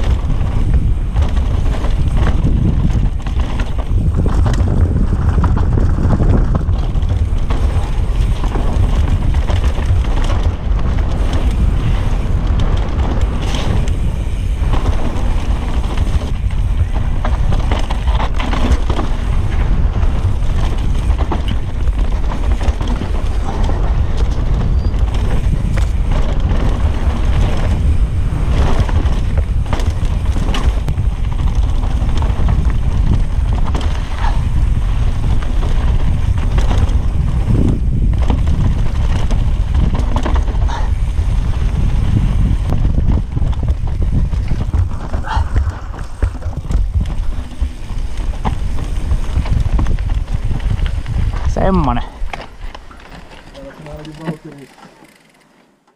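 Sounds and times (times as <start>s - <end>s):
wind buffeting microphone: 0.0s - 55.2s
bike knocks and rattles: 0.0s - 55.9s
tyres on dirt and rock: 0.0s - 55.9s.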